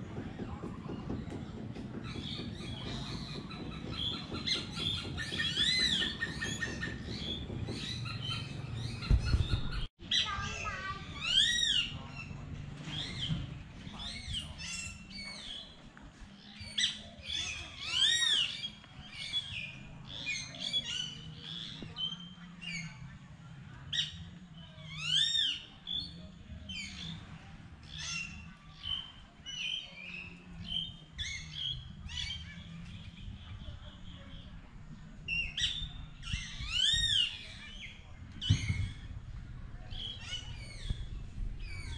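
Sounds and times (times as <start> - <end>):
birds squawking and chirping: 0.6 - 41.9.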